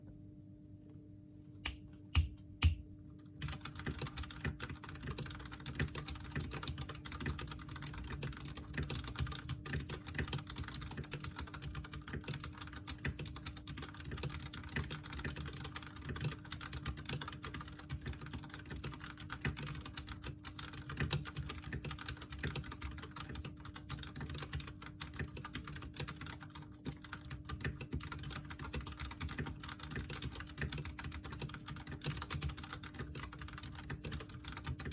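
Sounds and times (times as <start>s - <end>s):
mechanical keyboard typing: 3.4s - 34.9s.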